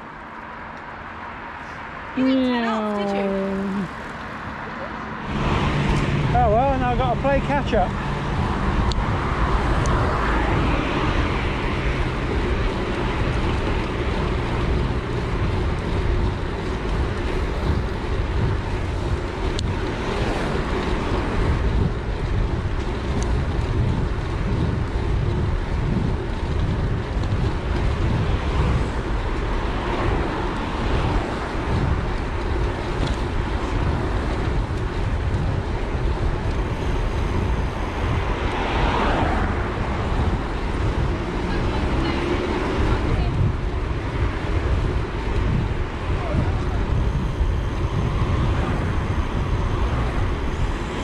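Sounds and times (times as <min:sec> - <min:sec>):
road noise: 0:00.0 - 0:51.0
wind buffeting microphone: 0:01.4 - 0:51.0.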